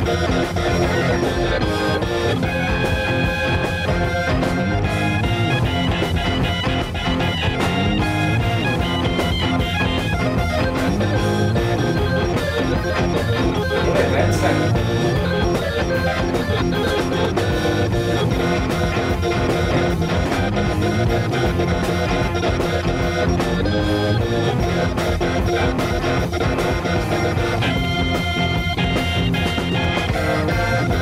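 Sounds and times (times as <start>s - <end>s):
drum kit beat: 0.0s - 31.0s
electric guitar: 0.0s - 31.0s
hammond organ: 0.0s - 31.0s.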